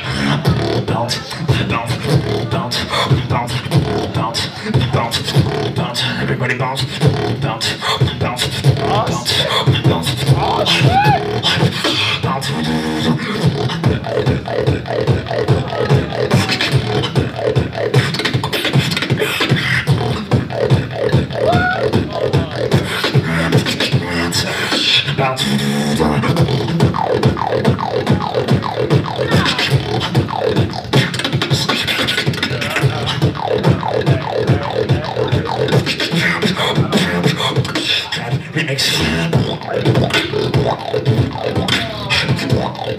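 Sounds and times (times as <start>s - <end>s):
person beatboxing into microphone: 0.0s - 42.9s.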